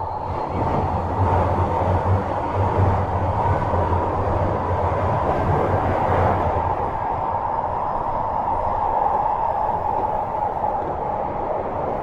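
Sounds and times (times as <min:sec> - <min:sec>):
faint steady whine: 0:00.0 - 0:12.0
train wheels rumbling on rail: 0:00.0 - 0:12.0.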